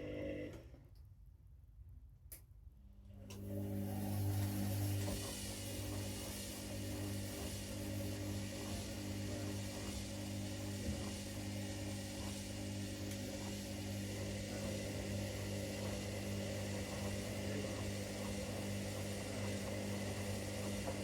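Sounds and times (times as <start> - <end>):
washing machines humming: 0.0 - 0.8, 2.8 - 21.0.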